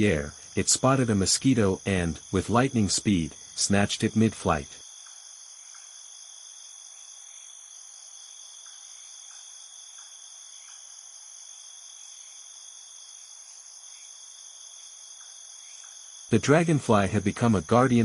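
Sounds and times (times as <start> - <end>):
insect chorus high tones: 0.0 - 18.0.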